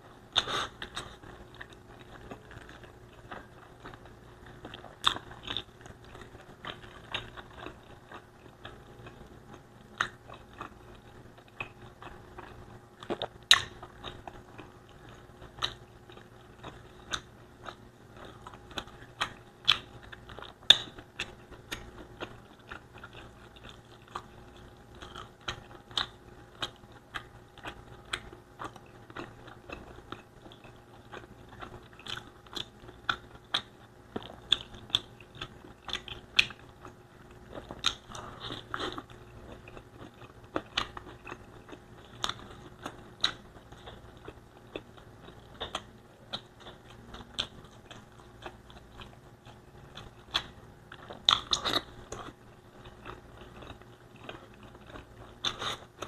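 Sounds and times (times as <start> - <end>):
faint steady hum: 0.0 - 56.0
person chewing: 0.3 - 56.0.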